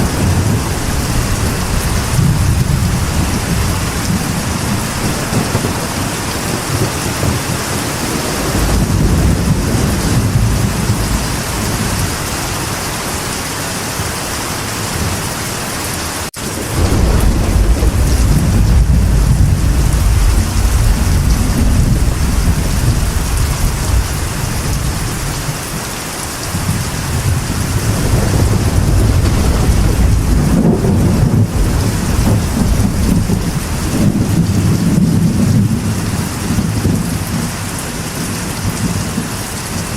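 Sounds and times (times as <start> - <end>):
rolling thunder: 0.0 - 13.4, 16.4 - 39.8
rain on a metal roof: 0.0 - 39.9.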